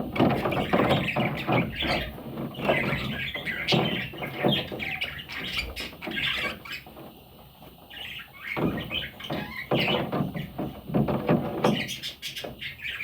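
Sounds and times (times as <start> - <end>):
budgerigar chicks calling: 0.2 - 6.9, 7.9 - 10.5, 11.5 - 13.0.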